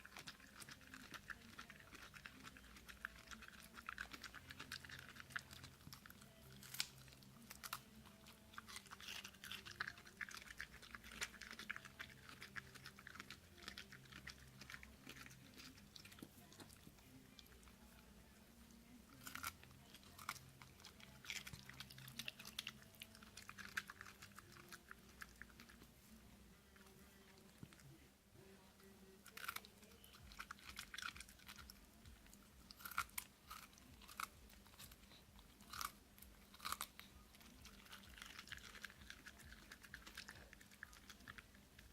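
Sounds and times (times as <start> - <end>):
dog chewing cucumber: 0.0 - 18.1, 19.1 - 26.0, 29.3 - 41.9.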